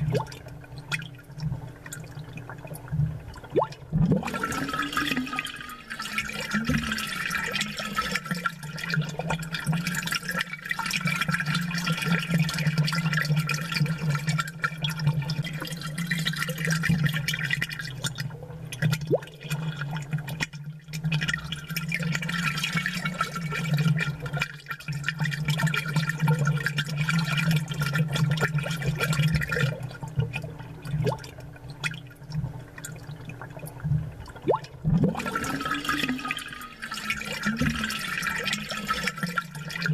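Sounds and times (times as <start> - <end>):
water bubbles gurgling and popping: 0.0 - 39.9.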